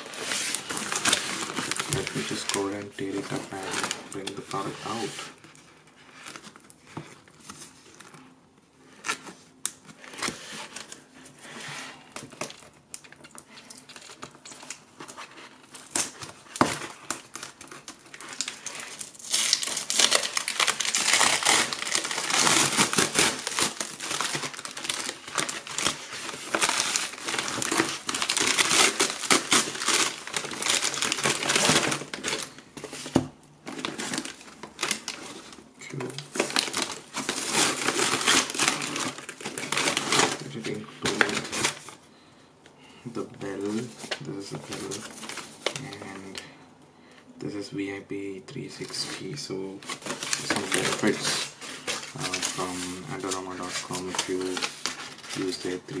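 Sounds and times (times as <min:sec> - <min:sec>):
plastic mailer tearing: 0:00.0 - 0:05.3, 0:12.0 - 0:42.0, 0:43.1 - 0:46.4, 0:48.6 - 0:56.0
plastic crinkling: 0:00.0 - 0:42.0, 0:42.9 - 0:46.6, 0:48.4 - 0:56.0.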